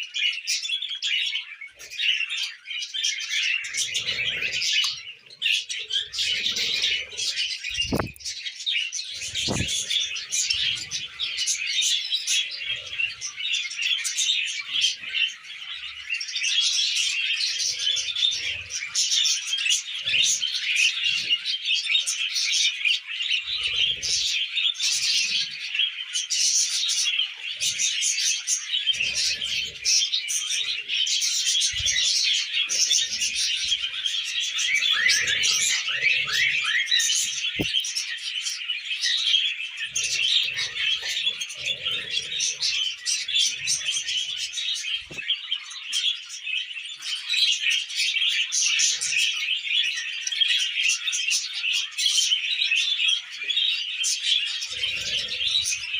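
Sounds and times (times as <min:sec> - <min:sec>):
budgerigars chattering: 0:00.2 - 0:55.9.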